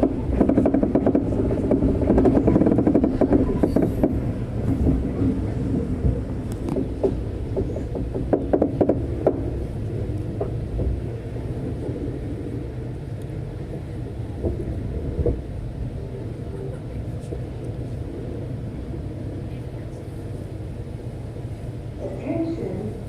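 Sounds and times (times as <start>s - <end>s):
diesel train rumble: 0.0s - 23.0s.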